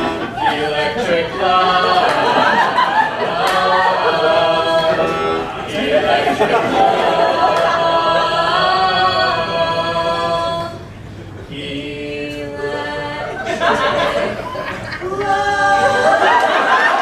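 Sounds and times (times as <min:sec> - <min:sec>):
two people singing a duet: 0:00.0 - 0:17.0.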